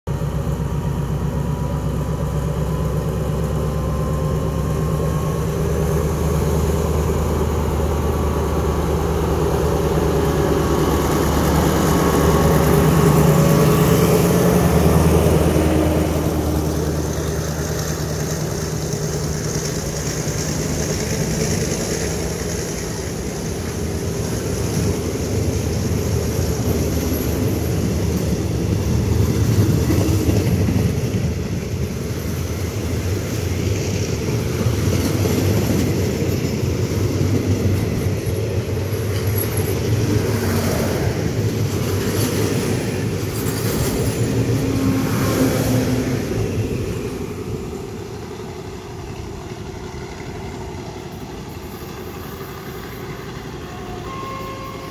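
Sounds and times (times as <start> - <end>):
diesel locomotive engine hum: 0.0 - 54.9
train wheels on rails: 0.1 - 54.9.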